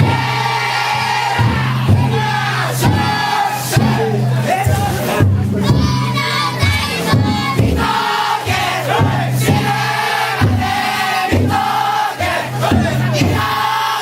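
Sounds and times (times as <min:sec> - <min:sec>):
people chanting in unison: 0:00.0 - 0:14.0
taiko drum beats: 0:00.0 - 0:14.0.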